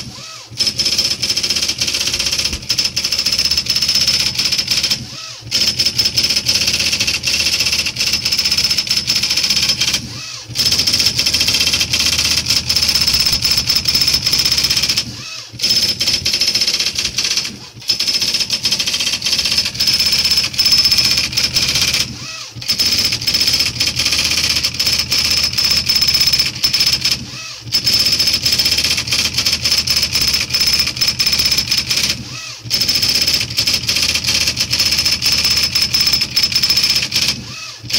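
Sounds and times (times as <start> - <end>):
typewriter clatter: 0.6 - 37.4.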